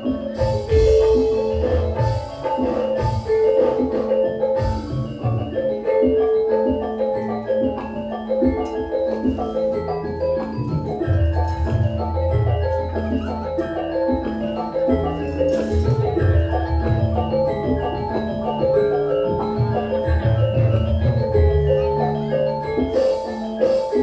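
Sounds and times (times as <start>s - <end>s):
metallophones playing runs: 0.0s - 24.0s
steady held tone: 0.0s - 24.0s.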